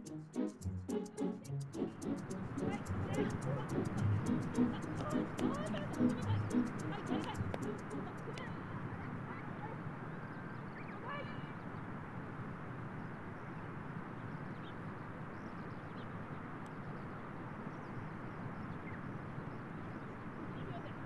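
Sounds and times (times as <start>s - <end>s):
outdoor background noise: 0.0s - 21.0s
bird calls and chirps: 2.8s - 11.9s, 13.0s - 21.0s.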